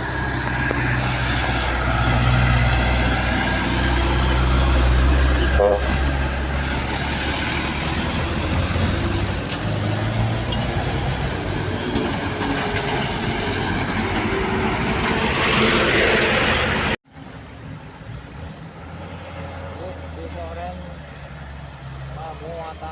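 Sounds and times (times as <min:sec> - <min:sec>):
truck engine under load: 0:00.0 - 0:20.2
road and tyre noise: 0:00.0 - 0:22.9.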